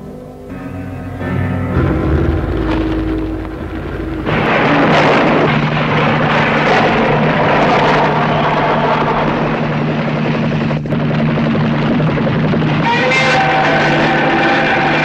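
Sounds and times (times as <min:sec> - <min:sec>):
helicopter engine and rotor drone: 0:02.4 - 0:15.0.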